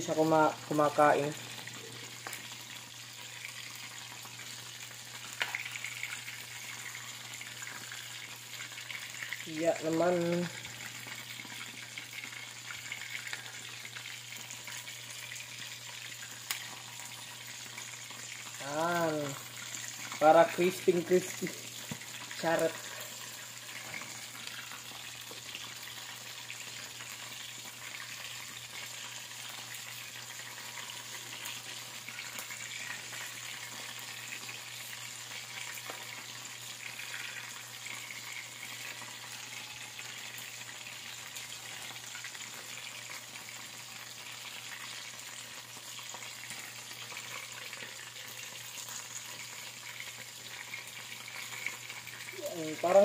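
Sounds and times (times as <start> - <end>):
oil sizzling while deep-frying: 0.0 - 53.0.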